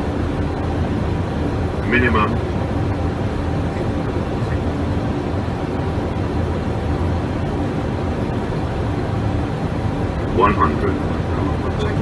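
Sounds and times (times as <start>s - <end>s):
faint steady hum: 0.0s - 12.0s
low rumble of airflow and engines: 0.0s - 12.0s.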